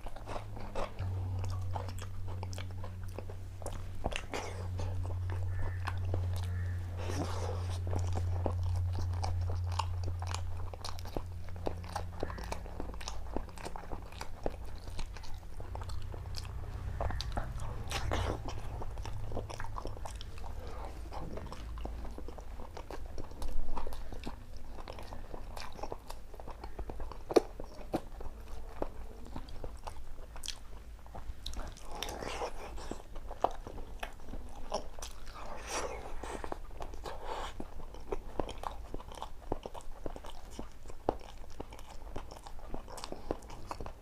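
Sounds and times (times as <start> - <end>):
low steady hum: 0.0 - 44.0
person chewing crunchy food: 0.0 - 44.0.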